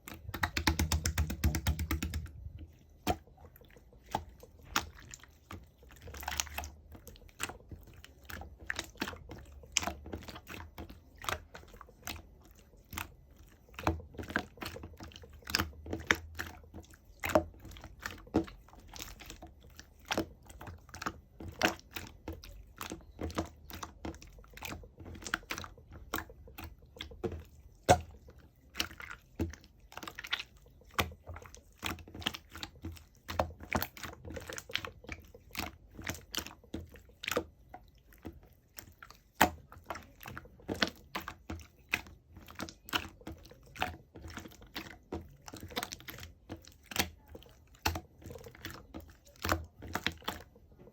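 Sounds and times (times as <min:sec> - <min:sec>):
slime squished by hand: 0:00.0 - 0:50.9.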